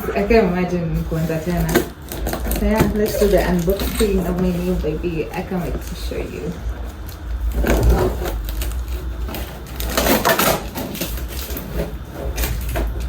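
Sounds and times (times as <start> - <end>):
cardboard packaging rustling: 0.4 - 13.0.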